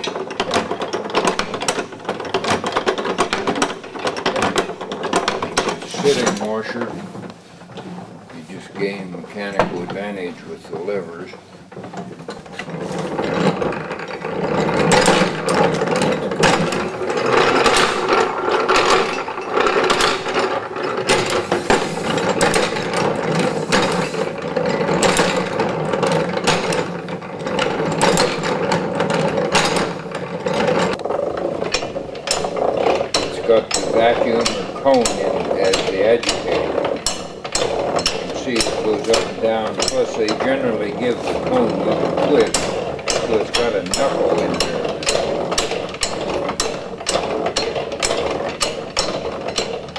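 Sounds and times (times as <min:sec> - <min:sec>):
hand-cranked washing machines clattering: 0:00.0 - 0:49.9.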